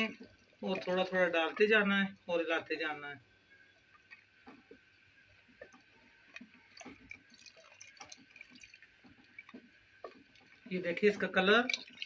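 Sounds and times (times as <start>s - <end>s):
liquid pouring: 0.0s - 2.7s, 3.5s - 12.0s
small clicks and drips: 0.0s - 2.8s, 3.4s - 12.0s
wooden spoon stirring stew: 0.0s - 2.8s, 3.4s - 12.0s.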